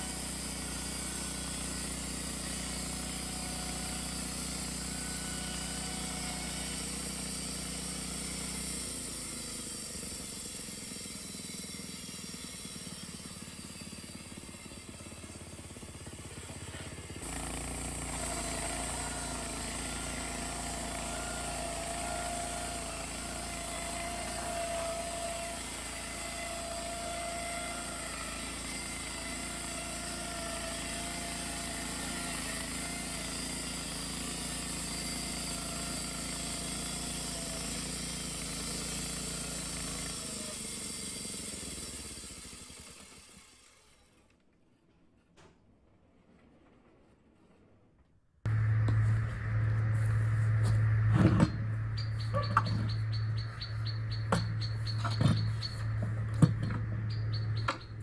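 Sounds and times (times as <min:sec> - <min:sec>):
bandsaw mill running: 0:00.0 - 0:44.1, 0:48.5 - 0:58.0.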